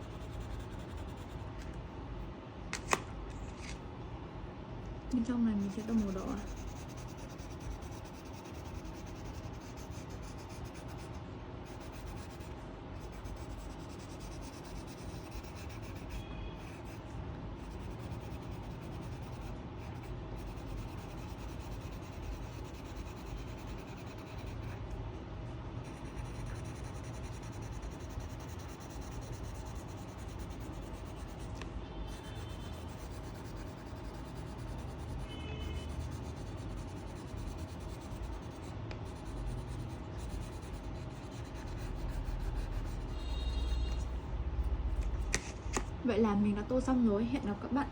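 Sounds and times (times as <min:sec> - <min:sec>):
pen scribbling on paper: 0:00.0 - 0:01.5, 0:05.2 - 0:25.0, 0:25.8 - 0:44.2.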